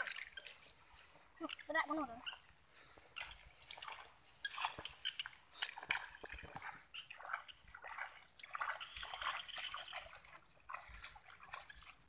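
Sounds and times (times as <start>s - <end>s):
sloshing steps in water: 0.0s - 1.7s, 2.3s - 12.0s.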